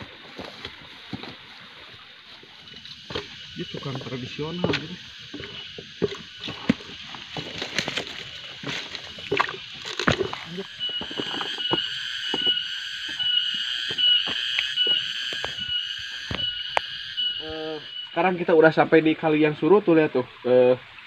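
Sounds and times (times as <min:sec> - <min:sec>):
footsteps on forest trail: 0:00.0 - 0:17.7
high-pitched insect chorus: 0:00.0 - 0:21.0.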